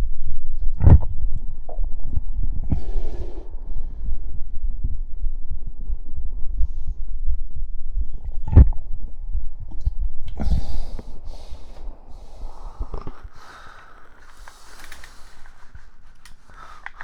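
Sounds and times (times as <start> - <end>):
stomach gurgling: 0.0 - 6.7, 7.9 - 17.0.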